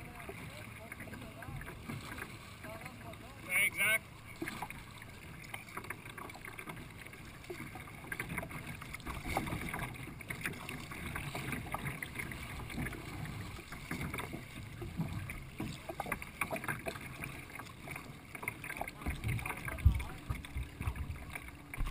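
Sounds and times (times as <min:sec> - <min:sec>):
paddle splashes: 0:00.0 - 0:21.9
water lapping against kayak hull: 0:00.0 - 0:21.9.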